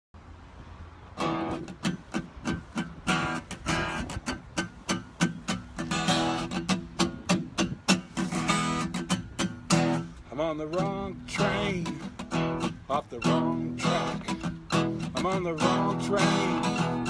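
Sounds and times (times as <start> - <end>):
acoustic guitar strumming: 1.2 - 17.0.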